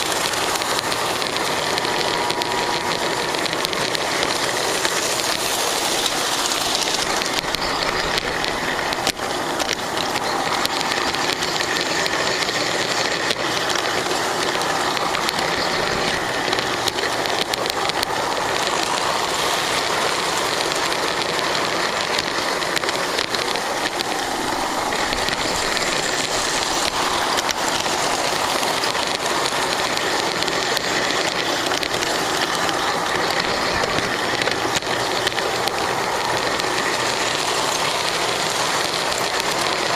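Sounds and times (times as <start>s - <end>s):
faint clicks from rails: 0.0s - 39.9s
model train motor whirring: 0.0s - 39.9s
wheels rolling on track: 0.0s - 39.9s.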